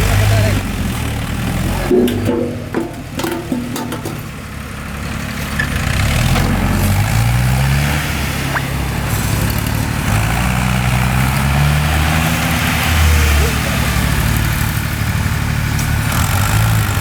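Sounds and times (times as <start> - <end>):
tractor diesel engine revving: 0.0 - 17.0.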